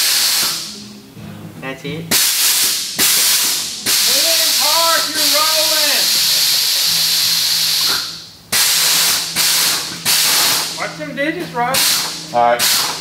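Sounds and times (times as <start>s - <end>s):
air hissing from suspension: 0.0s - 0.8s, 2.1s - 10.8s, 11.7s - 13.0s.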